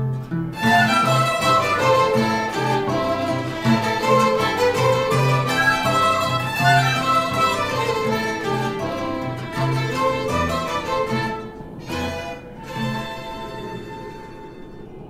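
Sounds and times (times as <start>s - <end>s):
bowed strings playing: 0.0s - 15.0s.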